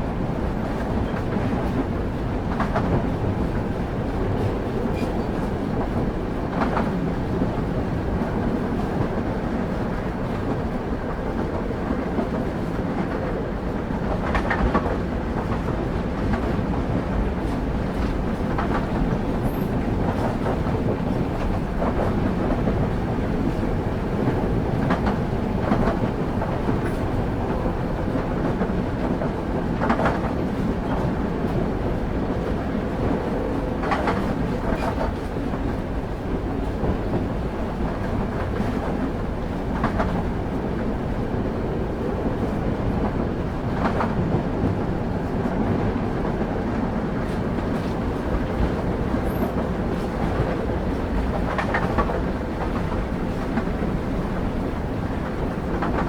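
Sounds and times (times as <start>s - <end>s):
railway carriage rumble: 0.0s - 56.0s.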